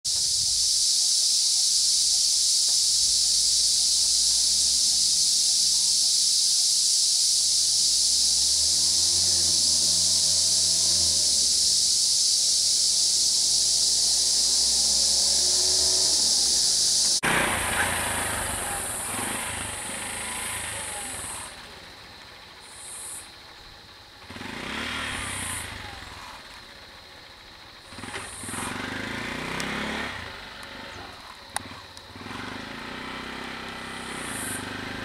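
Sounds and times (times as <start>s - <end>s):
high-pitched insect drone: 0.1s - 35.0s.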